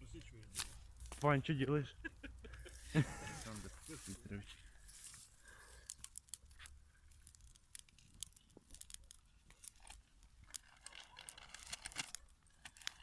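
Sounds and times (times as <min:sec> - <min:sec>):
grass fire crackling: 0:00.0 - 0:13.0.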